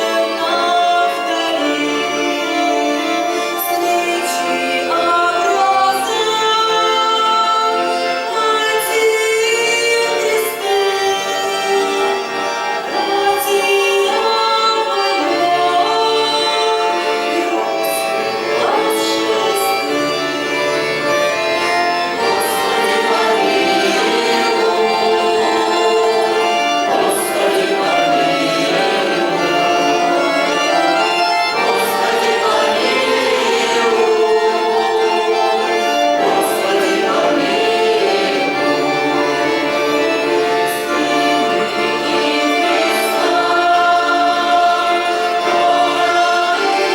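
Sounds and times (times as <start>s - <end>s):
folk choir singing with instruments: 0.0s - 46.9s.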